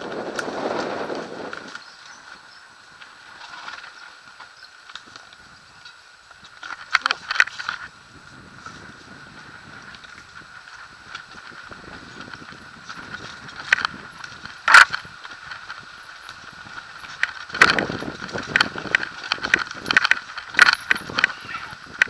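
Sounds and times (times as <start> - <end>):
mountain bike rattling on rocks: 0.0 - 22.0.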